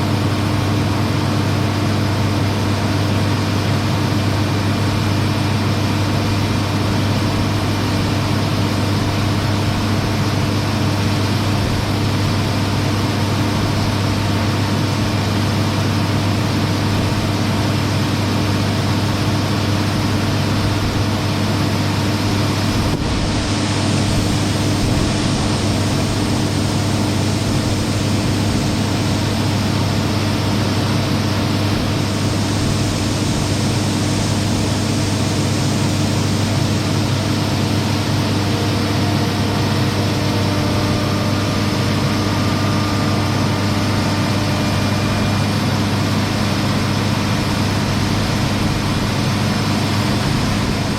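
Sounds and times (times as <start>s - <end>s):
farm machinery engine droning: 0.0s - 50.9s.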